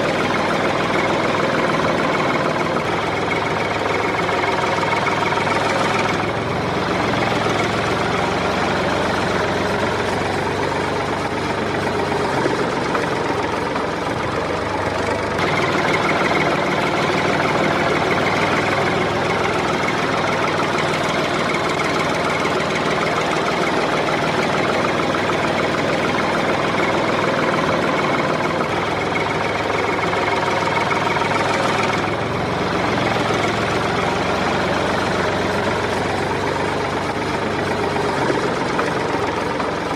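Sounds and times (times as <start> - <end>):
backhoe loading soil: 0.0 - 39.9
diesel engines running: 0.0 - 39.9.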